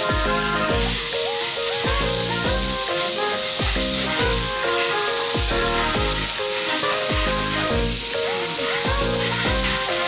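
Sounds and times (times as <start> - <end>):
background music with beat: 0.0 - 10.0
meat sizzling on hot plate: 0.0 - 10.0.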